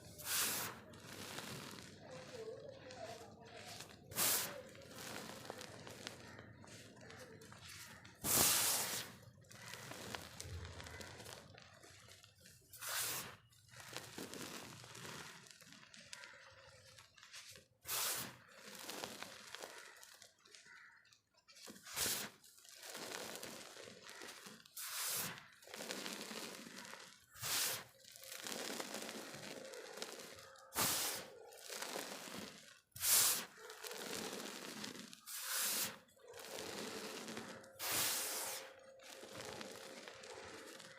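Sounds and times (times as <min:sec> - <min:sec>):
gritty crumbling and grinding: 0:00.0 - 0:08.4, 0:09.0 - 0:30.7, 0:31.3 - 0:40.9
chalk crunching: 0:00.0 - 0:40.9.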